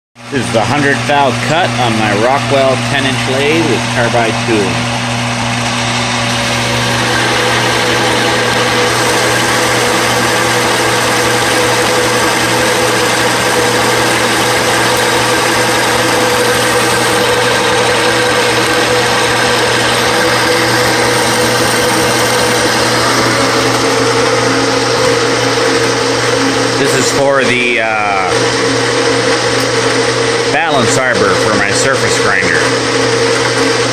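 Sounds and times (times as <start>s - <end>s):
metal lathe humming: 0.3s - 33.9s.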